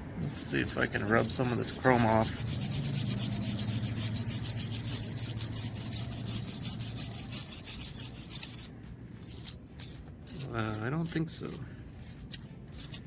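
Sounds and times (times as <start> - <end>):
brush scrubbing plastic: 0.2 - 13.0.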